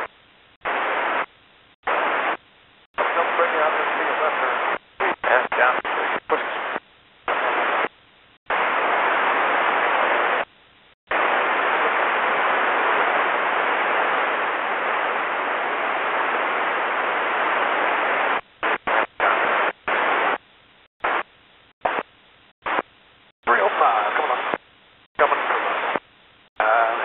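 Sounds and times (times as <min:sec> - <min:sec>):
radio scanner static bursts: 0:00.0 - 0:02.4, 0:03.0 - 0:27.0.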